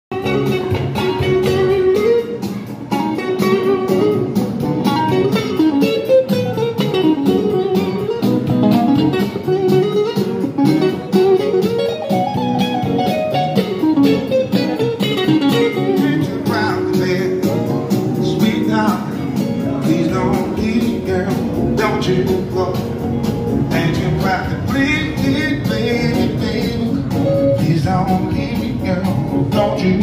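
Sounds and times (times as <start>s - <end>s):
bluesy electric guitar riff: 0.1s - 30.0s.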